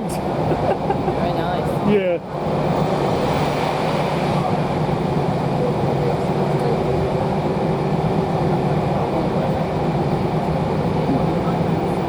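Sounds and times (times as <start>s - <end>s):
train coach wheels rumbling on track: 0.0s - 12.0s.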